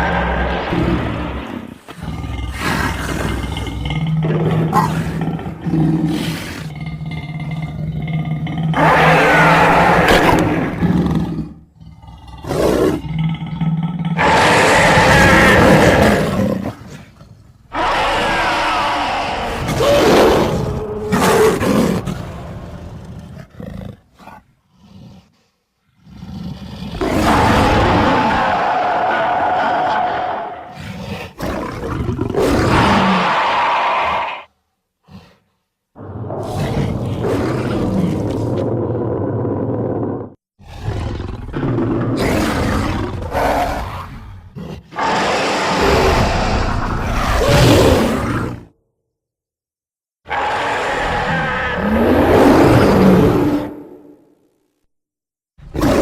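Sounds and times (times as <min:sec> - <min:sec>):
giant big cat roar: 0:00.0 - 0:25.3, 0:26.0 - 0:35.4, 0:36.0 - 0:48.8, 0:50.3 - 0:54.0.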